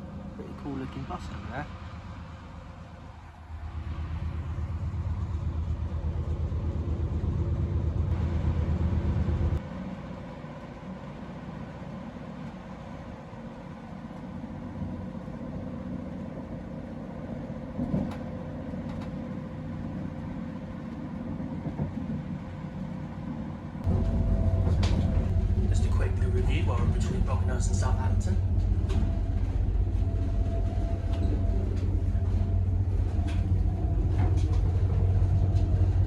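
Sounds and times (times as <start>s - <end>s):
train engine rumbling: 0.0s - 36.0s.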